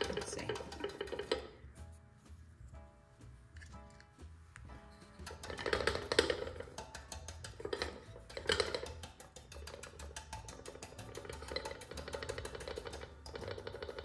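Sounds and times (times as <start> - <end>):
brush dabbing and scratching: 0.0 - 14.0.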